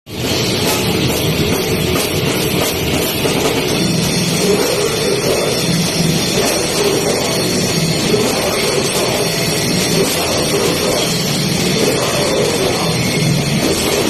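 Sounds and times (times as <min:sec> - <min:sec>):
distorted guitars: 0:00.1 - 0:14.0
drums: 0:00.1 - 0:14.0.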